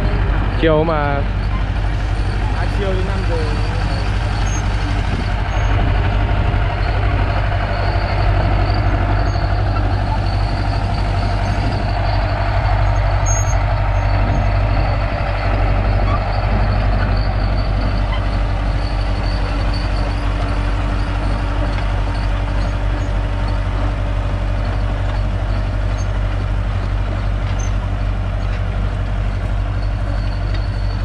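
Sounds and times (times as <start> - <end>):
bulldozer diesel engine running: 0.0 - 31.0
steel tracks clattering: 0.0 - 31.0.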